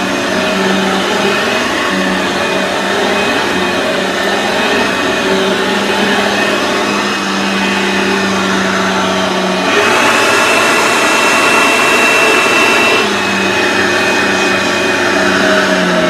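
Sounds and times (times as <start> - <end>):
high whine: 0.0 - 16.0
vacuum cleaner running on carpet: 0.0 - 16.0.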